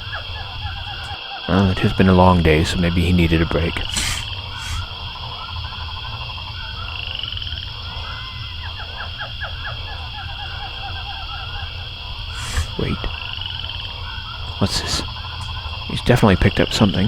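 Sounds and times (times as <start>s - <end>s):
frogs croaking in chorus: 0.0s - 17.0s
low hum: 0.0s - 17.0s.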